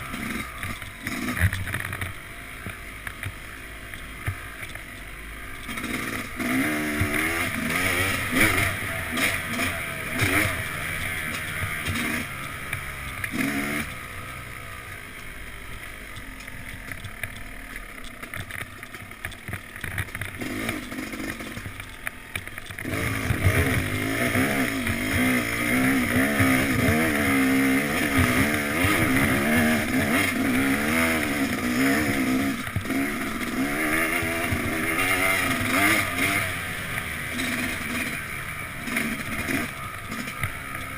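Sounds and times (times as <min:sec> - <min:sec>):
dirt bike engine revving: 0:00.0 - 0:04.7, 0:05.3 - 0:40.9.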